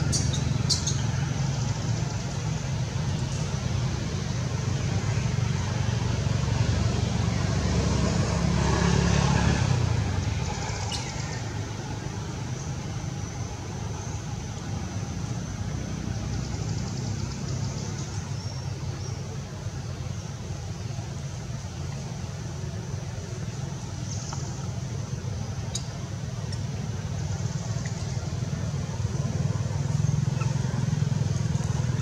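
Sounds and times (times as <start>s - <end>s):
vehicle engine rumble passing by: 0.0s - 32.0s.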